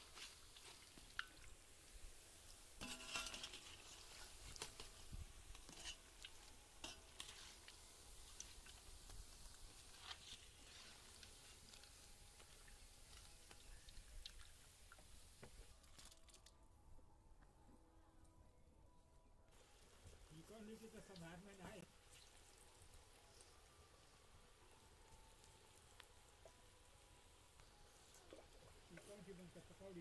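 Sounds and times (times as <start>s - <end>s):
hot oil crackling in a wok: 0.0s - 16.4s, 19.6s - 30.0s.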